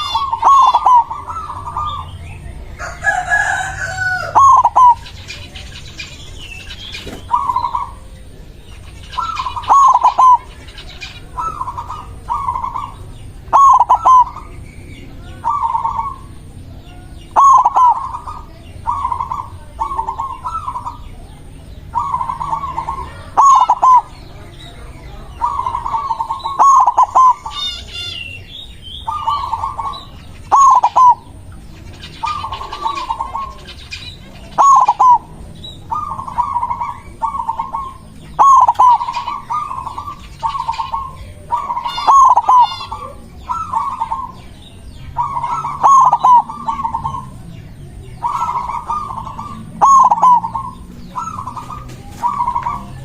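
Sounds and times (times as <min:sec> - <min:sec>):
dove cooing: 0:00.0 - 0:53.0
faint high bird chirps: 0:00.0 - 0:53.0.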